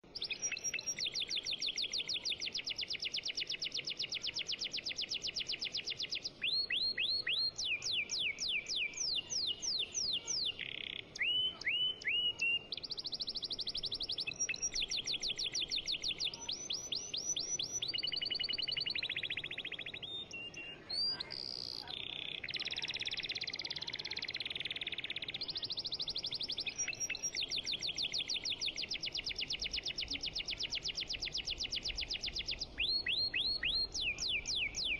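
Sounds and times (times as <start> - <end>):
songbird trilling and chirping: 0.0 - 34.9.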